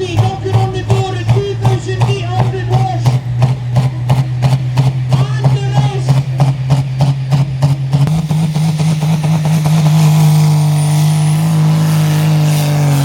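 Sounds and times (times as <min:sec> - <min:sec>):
pulling tractor engine at high revs: 0:00.0 - 0:13.0.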